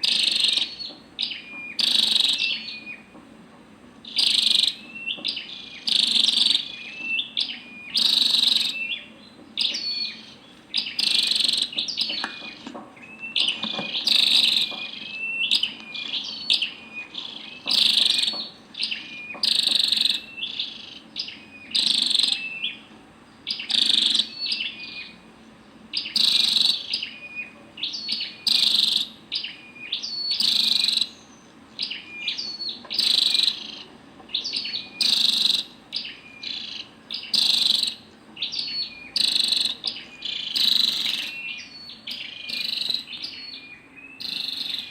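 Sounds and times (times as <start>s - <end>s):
bird high sharp chirps: 4.1s - 22.8s, 26.0s - 44.9s.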